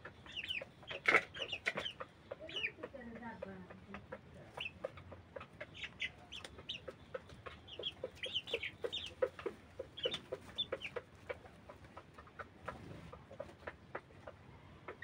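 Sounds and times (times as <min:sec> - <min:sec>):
chickens clucking and cheeping: 0:00.0 - 0:15.0.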